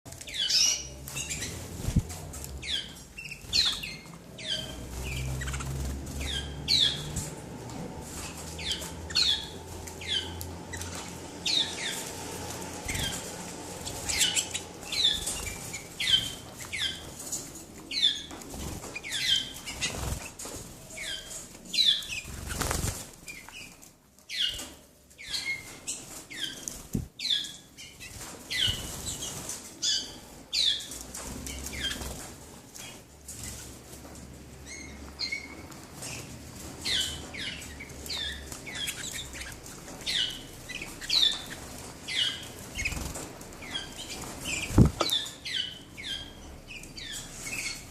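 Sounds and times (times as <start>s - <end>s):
canaries chirping: 0.1s - 47.9s.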